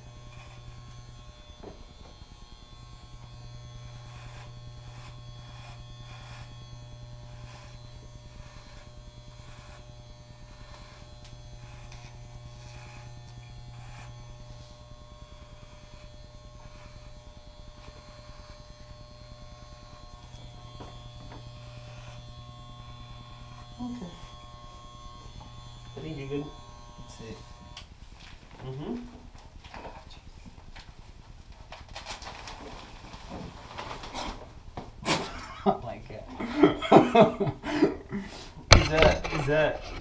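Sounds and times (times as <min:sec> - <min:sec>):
electric hair clippers buzzing: 0:00.0 - 0:29.4, 0:33.8 - 0:40.0.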